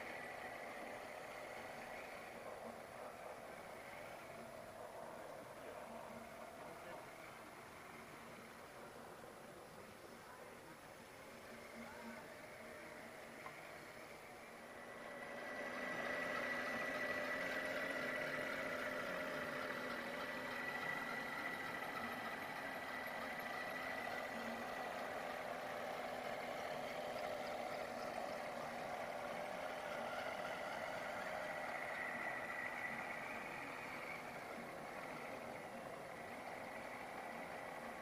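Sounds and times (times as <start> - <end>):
model truck motor whine: 0.0 - 38.0.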